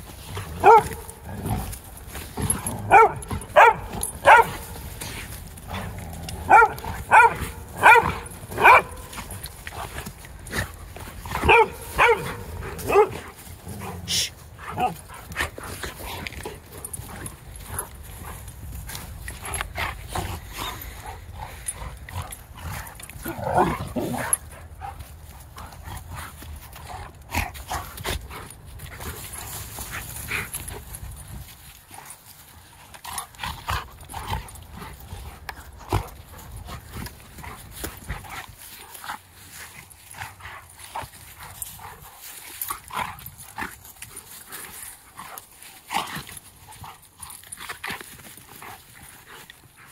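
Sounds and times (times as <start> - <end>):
dogs growling and snarling: 0.0 - 49.9
scuffling on wood chips: 0.0 - 49.9.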